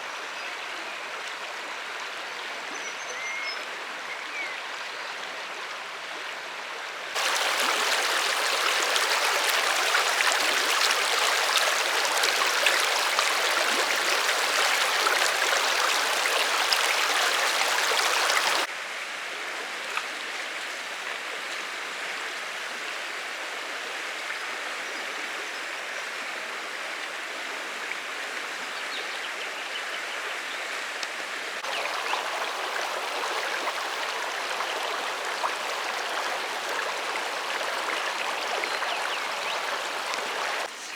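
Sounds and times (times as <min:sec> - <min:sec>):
flowing river water: 0:00.0 - 0:40.9.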